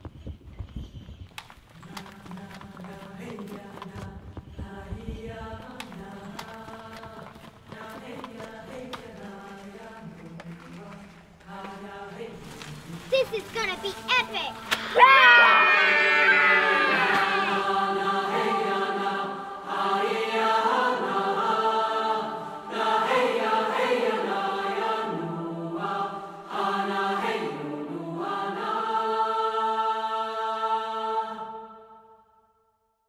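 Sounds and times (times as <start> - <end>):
choir singing sustained chords: 1.8 - 13.1, 14.6 - 32.7.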